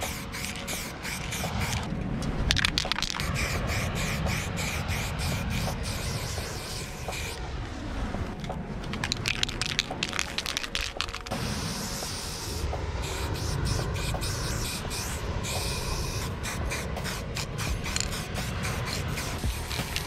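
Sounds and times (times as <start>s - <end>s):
spray can hissing: 0.0s - 1.9s, 2.5s - 7.4s, 9.1s - 20.0s.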